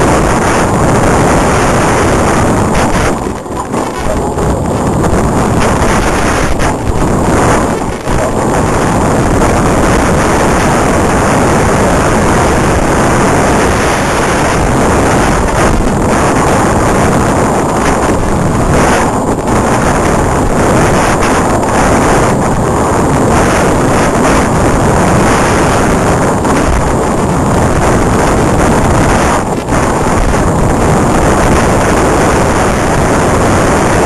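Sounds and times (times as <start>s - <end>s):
thin high whine: 0.0s - 34.0s
wind buffeting microphone: 0.0s - 34.0s.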